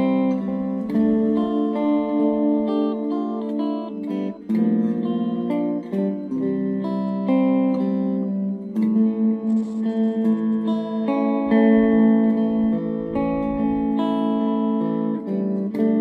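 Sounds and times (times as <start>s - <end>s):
electric guitar chords ringing: 0.0s - 16.0s.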